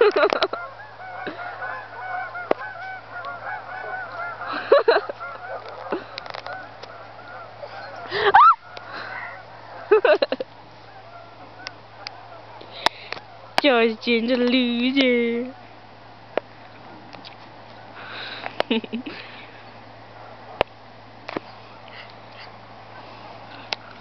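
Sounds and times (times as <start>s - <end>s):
geese honking: 0.0s - 20.7s.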